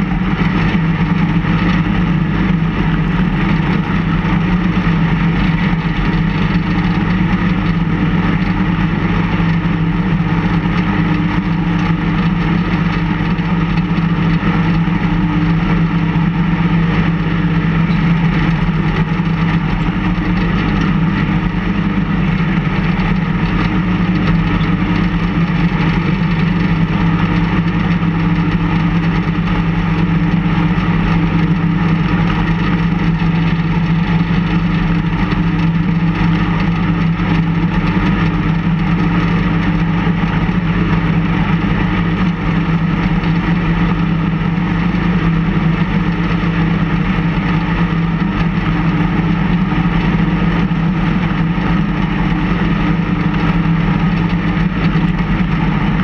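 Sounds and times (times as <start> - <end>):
snowplow engine running: 0.0 - 56.0.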